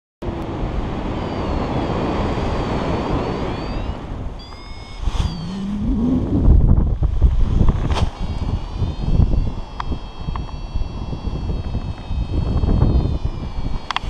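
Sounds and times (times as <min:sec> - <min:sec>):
wind rushing over microphone: 0:00.2 - 0:14.0
faint thin whistling tones: 0:01.1 - 0:06.7, 0:08.2 - 0:14.0.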